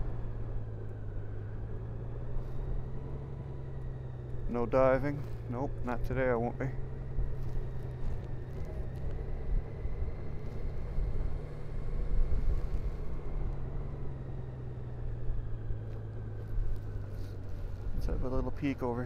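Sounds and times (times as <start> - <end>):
motorcycle engine humming: 0.0 - 19.0.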